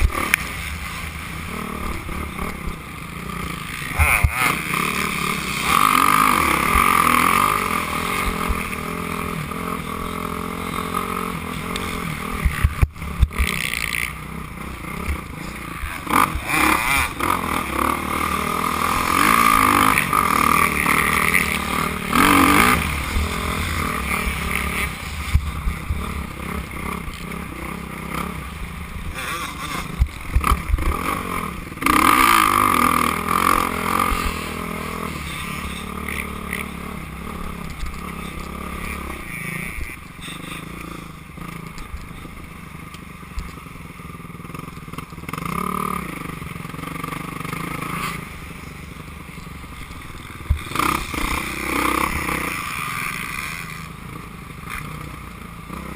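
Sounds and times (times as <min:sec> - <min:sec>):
dirt bike engine revving: 0:00.0 - 0:43.4, 0:44.0 - 0:55.9.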